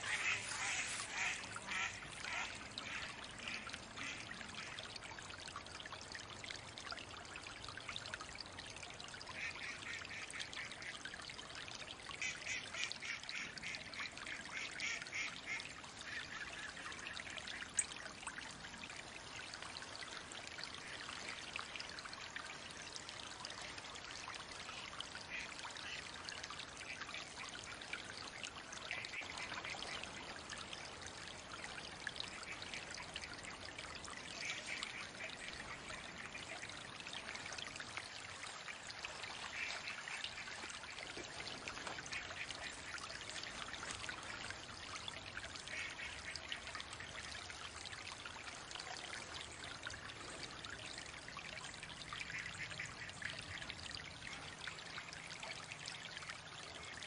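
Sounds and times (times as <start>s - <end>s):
ducks dabbling and splashing: 0.0s - 57.0s
trickling running water: 0.0s - 57.0s.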